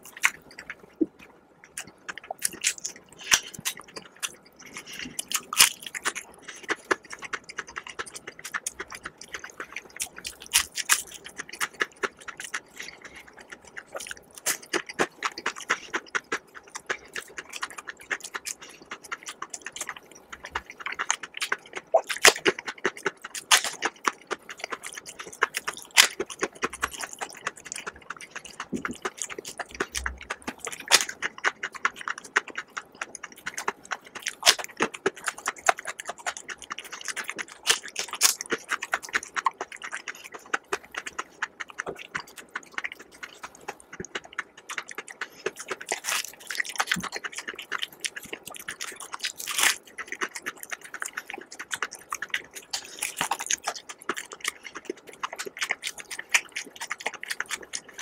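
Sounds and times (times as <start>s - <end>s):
person chewing crisp food: 0.0s - 58.0s
wet mouth clicks: 0.0s - 58.0s.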